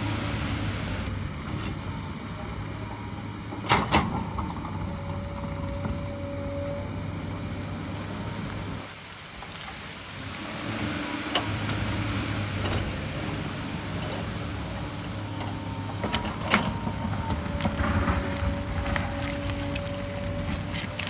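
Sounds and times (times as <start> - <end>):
excavator diesel engine: 0.0 - 21.0.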